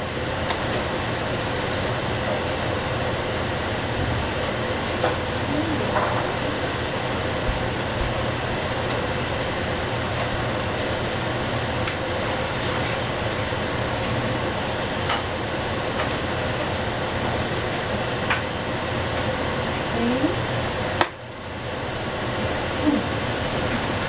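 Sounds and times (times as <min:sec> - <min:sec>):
stove whirring hum: 0:00.0 - 0:24.0.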